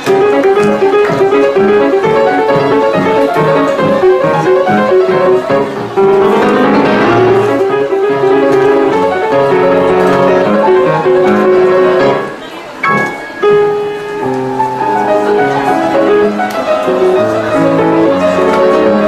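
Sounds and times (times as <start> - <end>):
grand piano played fast: 0.0 - 19.0.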